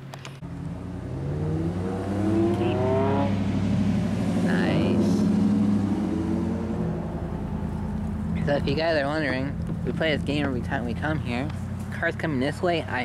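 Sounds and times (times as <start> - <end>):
truck engine accelerating: 0.4 - 13.0.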